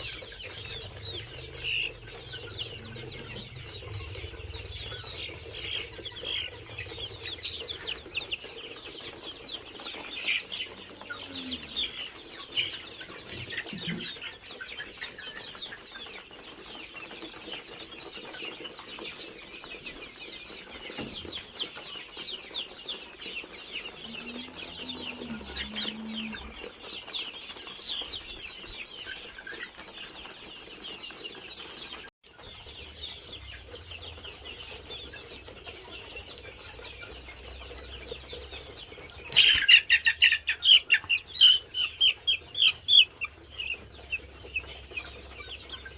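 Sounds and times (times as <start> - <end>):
chickens cheeping: 0.0 - 45.9.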